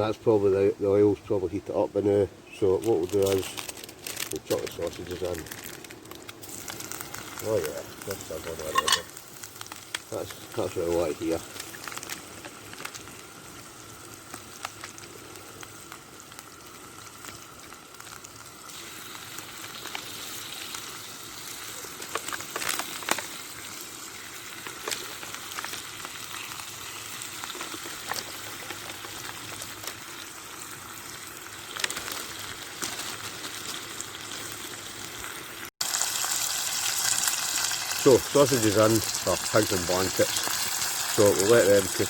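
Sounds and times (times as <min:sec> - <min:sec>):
sausages sizzling in hot oil: 0:00.0 - 0:42.0.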